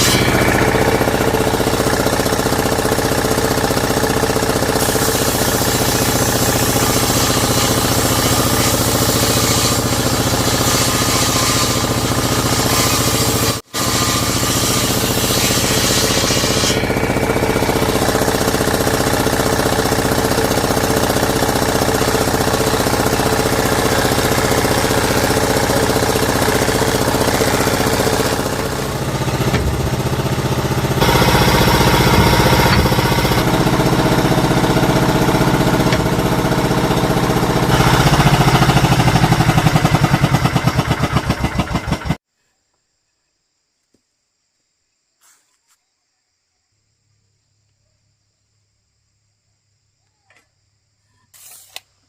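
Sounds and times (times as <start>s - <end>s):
woodworking power tool running: 0.0s - 42.2s.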